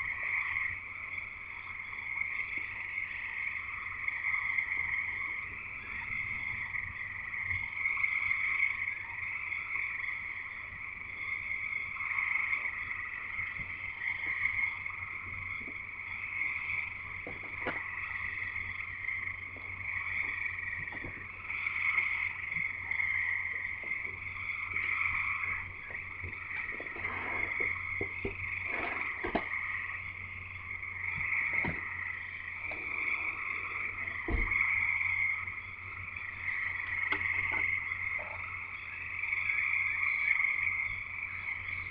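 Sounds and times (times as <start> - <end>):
frogs chorus calling: 0.0 - 41.9.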